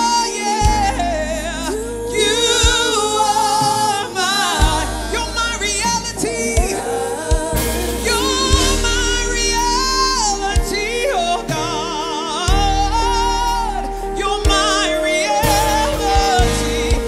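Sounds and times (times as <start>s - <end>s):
backing vocalists: 0.0s - 17.0s
band accompaniment: 0.0s - 17.0s
low thumping beats: 0.0s - 17.0s.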